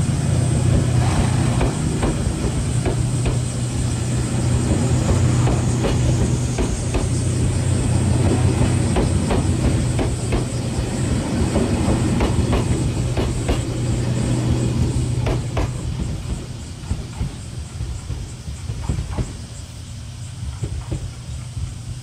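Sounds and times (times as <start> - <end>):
train running hum: 0.0 - 22.0
wheels clicking over rail joints: 0.0 - 22.0.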